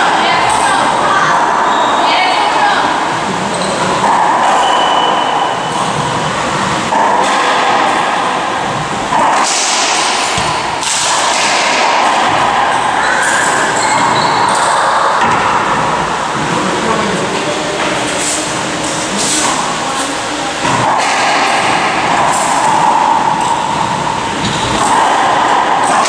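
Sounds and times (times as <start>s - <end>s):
loud background noise: 0.0s - 26.0s.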